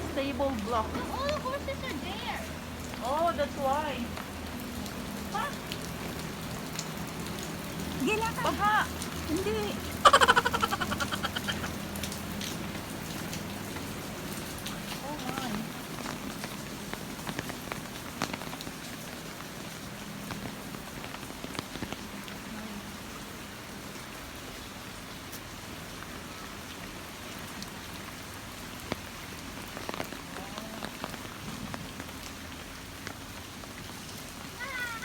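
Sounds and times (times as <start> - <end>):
rain hissing: 0.0 - 35.0.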